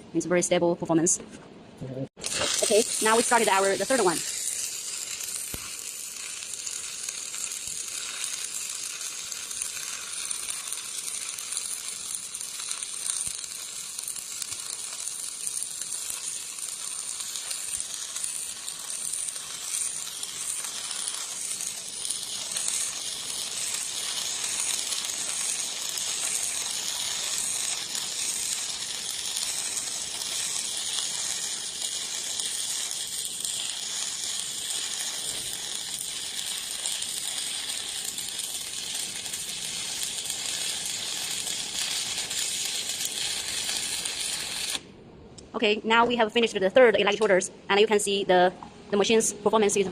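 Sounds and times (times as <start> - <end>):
welding arc crackling: 2.2 - 44.9.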